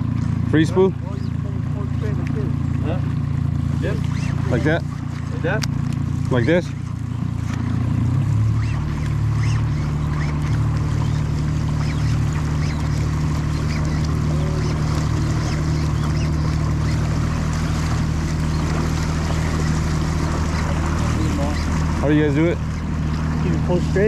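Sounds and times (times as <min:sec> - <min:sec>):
outboard motor humming: 0:00.0 - 0:24.0
water washing past hull: 0:00.0 - 0:24.0.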